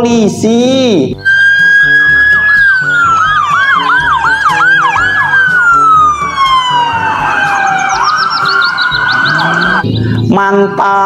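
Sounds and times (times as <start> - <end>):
music beat: 1.2 - 10.2
police siren yelping: 1.2 - 10.2.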